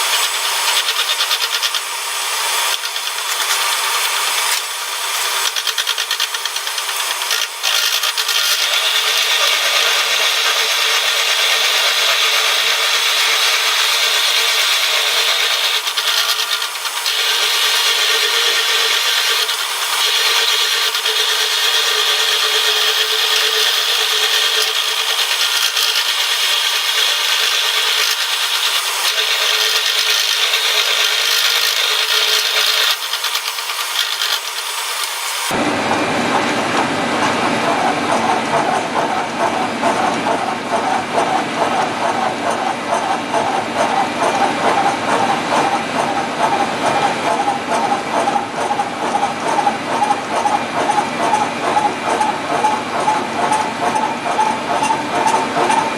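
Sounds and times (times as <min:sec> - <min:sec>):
milling machine cutting steel: 0:00.0 - 0:55.9.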